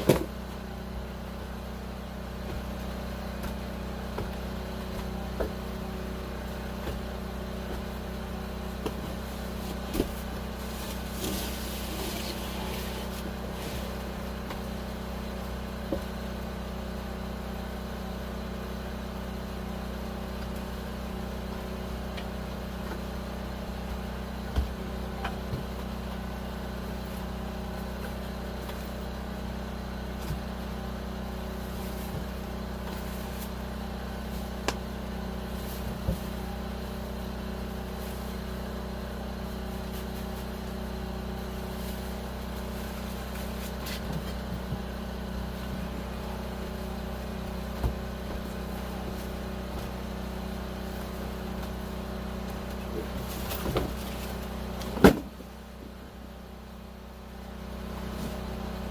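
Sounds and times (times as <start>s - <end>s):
low motor hum: 0.0s - 58.9s.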